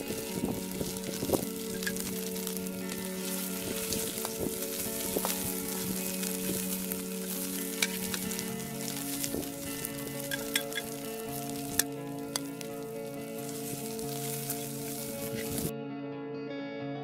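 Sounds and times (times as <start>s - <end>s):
fish sizzling in oil: 0.0s - 15.7s
spatula scraping a pan: 0.0s - 15.7s.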